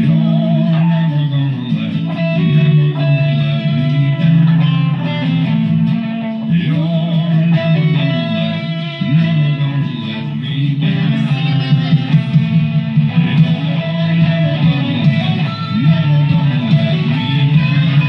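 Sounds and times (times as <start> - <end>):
electric guitar lead with vibrato: 0.0 - 18.0
sustained guitar chords: 0.0 - 18.0.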